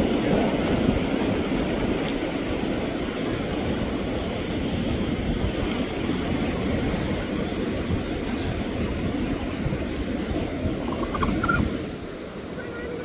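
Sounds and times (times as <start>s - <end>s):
sea surf on rocky shore: 0.0s - 13.0s
wind on microphone: 0.0s - 13.0s.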